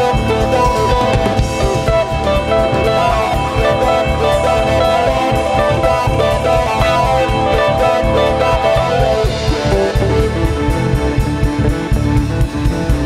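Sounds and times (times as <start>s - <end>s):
electric guitar notes: 0.0s - 13.0s
live rock band: 0.0s - 13.0s.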